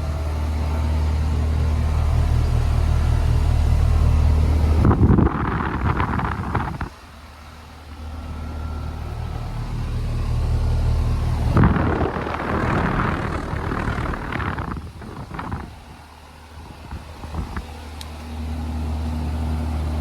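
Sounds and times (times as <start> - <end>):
compressor low hum: 0.0 - 20.0
fan air rushing: 0.0 - 20.0.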